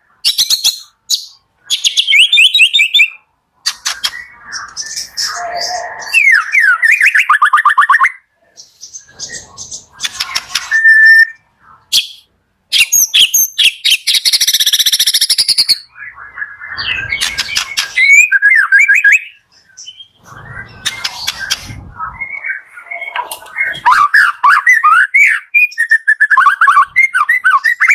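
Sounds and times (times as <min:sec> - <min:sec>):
bird singing whistles and trills: 0:00.2 - 0:03.2, 0:03.8 - 0:27.9.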